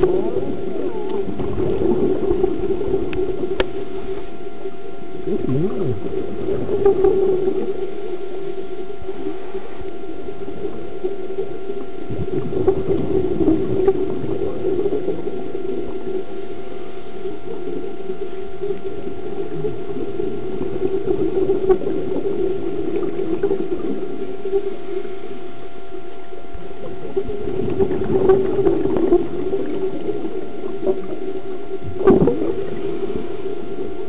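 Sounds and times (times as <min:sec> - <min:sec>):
low underwater hum: 0:00.0 - 0:34.0
scuba regulator bubbling: 0:00.0 - 0:34.0.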